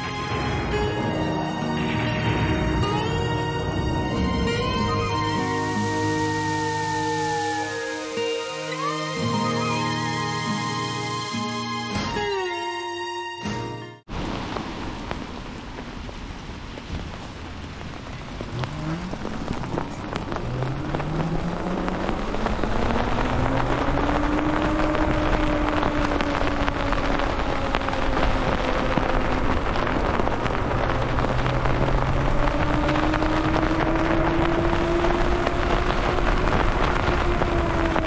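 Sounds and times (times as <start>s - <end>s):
tyres hissing on wet pavement: 0.0s - 10.1s, 14.1s - 38.0s
wind: 0.0s - 38.0s.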